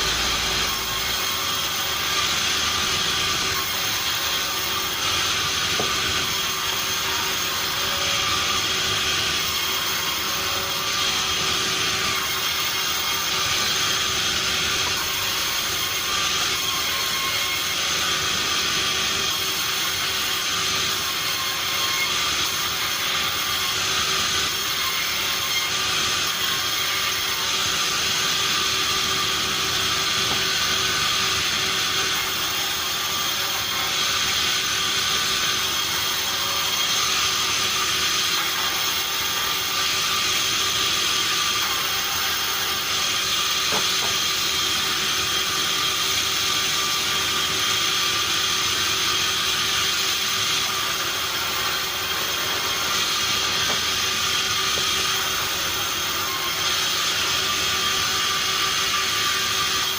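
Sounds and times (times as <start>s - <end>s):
sawmill saw running: 0.0s - 59.9s.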